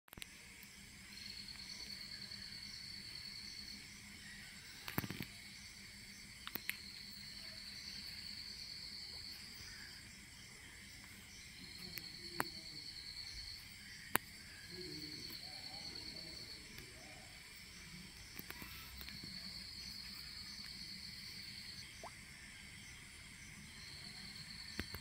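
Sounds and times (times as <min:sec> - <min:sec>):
high-pitched insect trills: 0:00.1 - 0:25.0.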